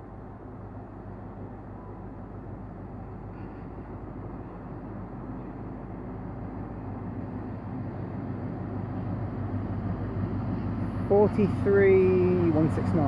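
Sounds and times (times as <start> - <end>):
train diesel engine drone: 0.0 - 13.0.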